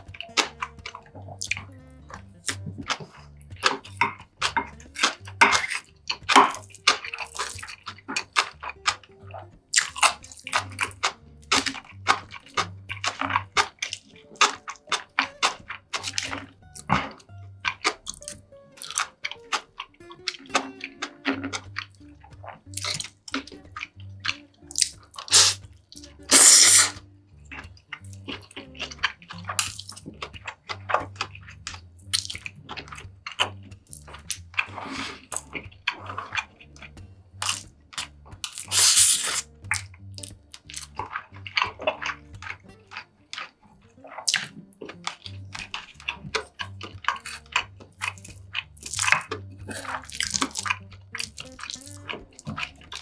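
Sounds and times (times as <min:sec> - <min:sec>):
spoon and chopsticks clicking bowls: 0:00.0 - 0:43.6, 0:44.3 - 0:53.0
chewing: 0:00.0 - 0:53.0
slurping: 0:00.0 - 0:53.0
soft background music: 0:00.0 - 0:53.0.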